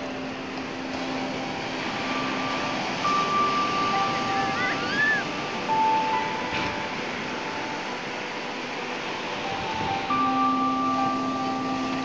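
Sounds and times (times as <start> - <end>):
sea surf breaking on beach: 0.0 - 12.0
thin steady high tone: 0.0 - 12.0.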